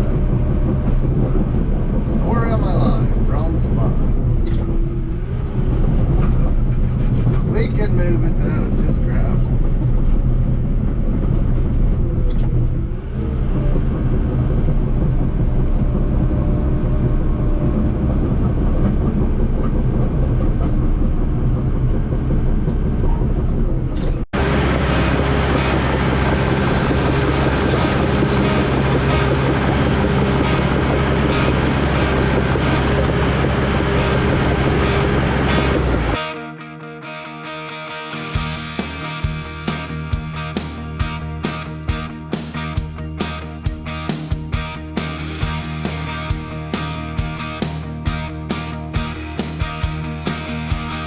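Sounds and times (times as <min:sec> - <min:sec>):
diesel machine engine hum and rattle: 0:00.0 - 0:36.2, 0:38.4 - 0:51.0.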